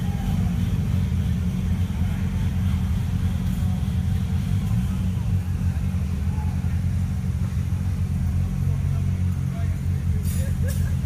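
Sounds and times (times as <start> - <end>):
engines idling: 0.0 - 11.0
faint voices: 0.0 - 11.0.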